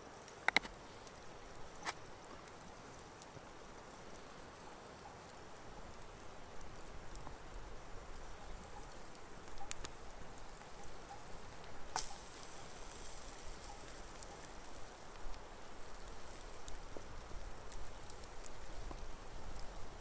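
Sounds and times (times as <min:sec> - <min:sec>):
fire crackles: 0:00.0 - 0:20.0
food sizzling over campfire: 0:00.0 - 0:20.0.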